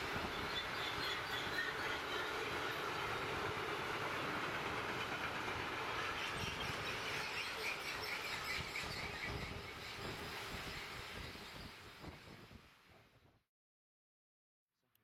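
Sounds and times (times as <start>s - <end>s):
train wheels rolling on rails: 0.0s - 13.1s.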